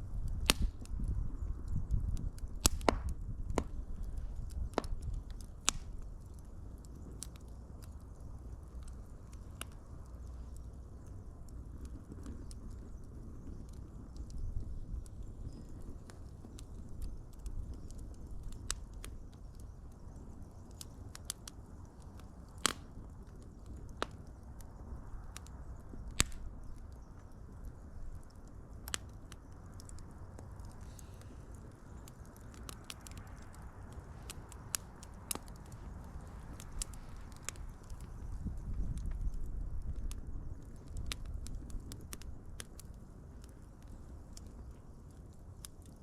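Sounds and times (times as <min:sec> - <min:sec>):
fire popping and snapping: 0:00.0 - 0:46.0
low rumble of burning: 0:00.0 - 0:46.0
wood fire crackling: 0:00.0 - 0:46.0.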